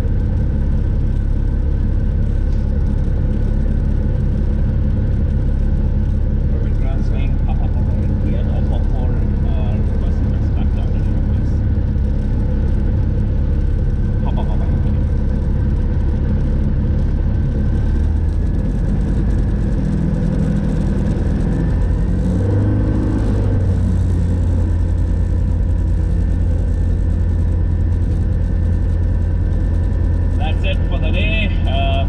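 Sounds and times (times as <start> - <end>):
light aircraft engine and propeller: 0.0 - 32.0.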